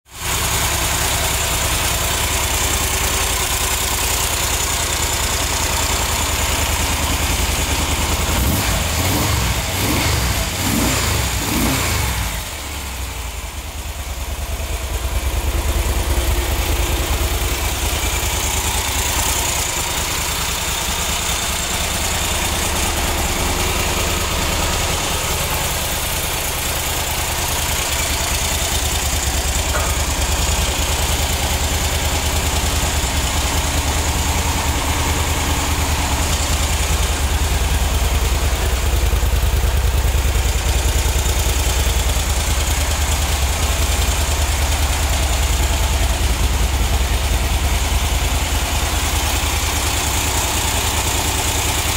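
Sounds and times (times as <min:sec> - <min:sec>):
motorcycle engine idling: 0:00.1 - 0:51.9.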